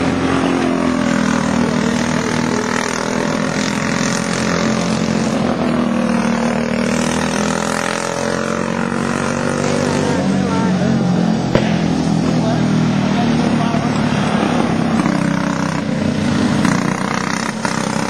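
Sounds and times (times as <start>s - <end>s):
go-kart engines racing: 0.0s - 18.0s.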